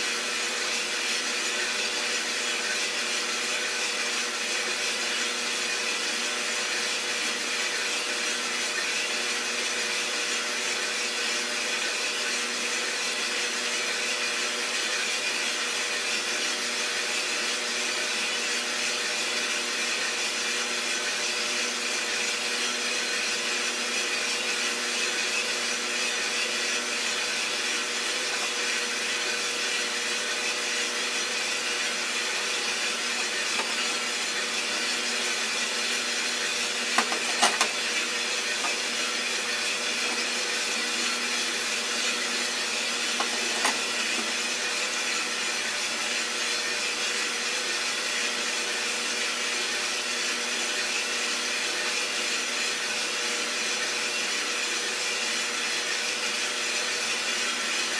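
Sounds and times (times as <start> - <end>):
coffee roaster fan whoosh: 0.0 - 57.9.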